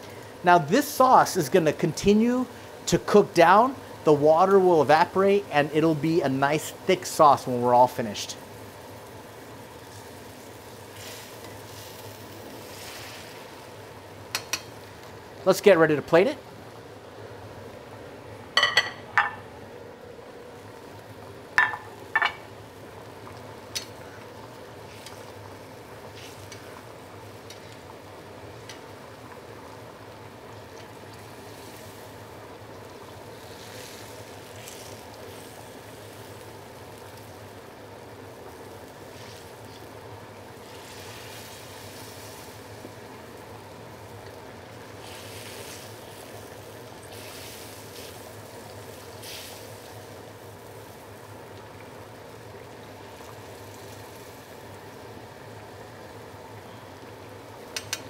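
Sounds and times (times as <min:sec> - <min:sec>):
sauce bubbling and sizzling in wok: 0:00.0 - 0:58.0.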